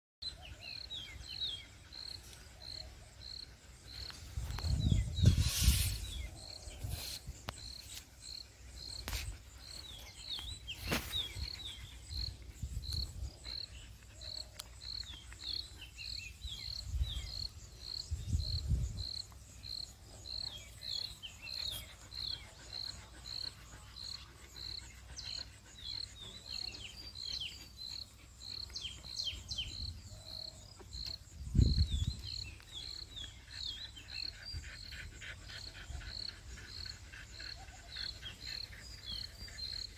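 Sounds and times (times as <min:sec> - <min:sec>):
insect chirping: 0:00.6 - 0:39.9.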